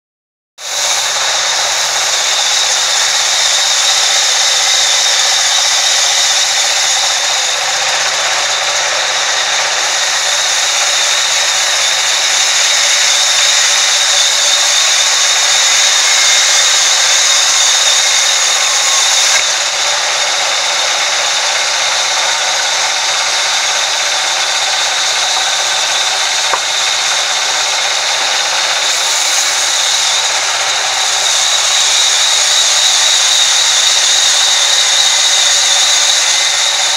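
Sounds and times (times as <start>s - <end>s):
band saw cutting wood: 0.6s - 36.9s
high whine: 0.6s - 36.9s.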